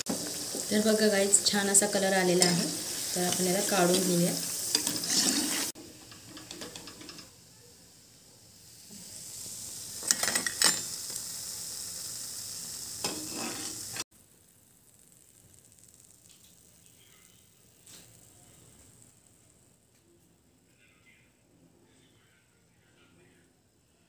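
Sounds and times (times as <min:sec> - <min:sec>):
oil sizzling: 0:00.0 - 0:20.0.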